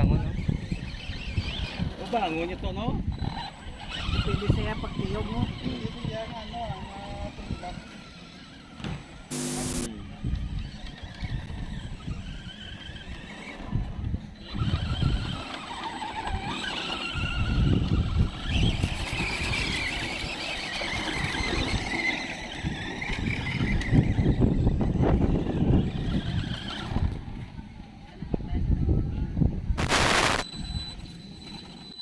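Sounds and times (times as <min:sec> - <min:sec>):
rc car motor whining: 0:00.0 - 0:28.2, 0:29.8 - 0:32.0.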